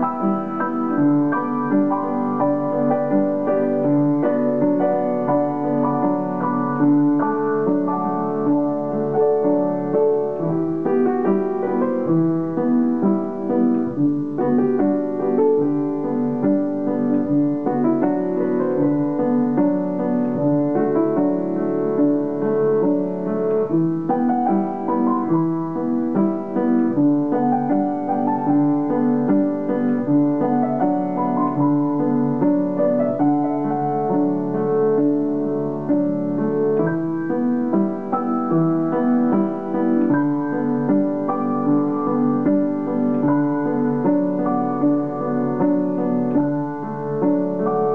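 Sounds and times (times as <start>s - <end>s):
solo piano music: 0.0s - 47.9s.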